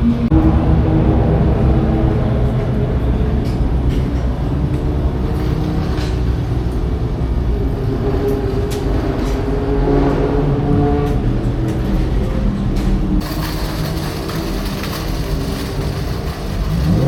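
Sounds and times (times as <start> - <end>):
racing car engines running: 0.0 - 17.0.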